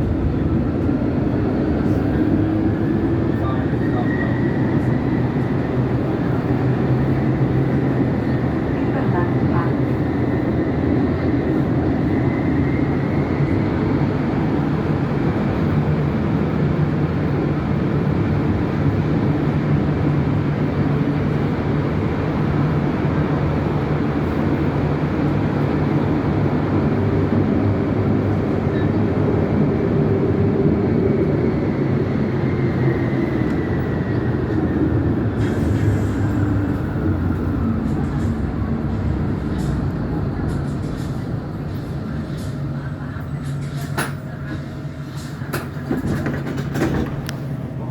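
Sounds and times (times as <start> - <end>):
tram rumbling on rails: 0.0 - 47.9.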